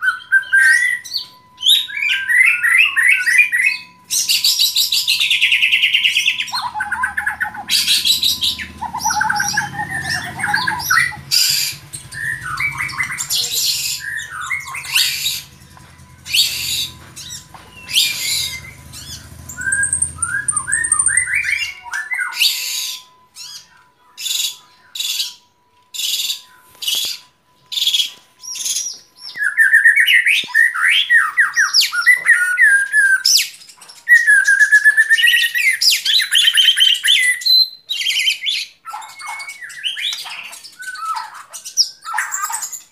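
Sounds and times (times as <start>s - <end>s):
bird whistled and trilled phrases: 0.0s - 42.9s
bird harsh rasping notes: 0.4s - 37.4s.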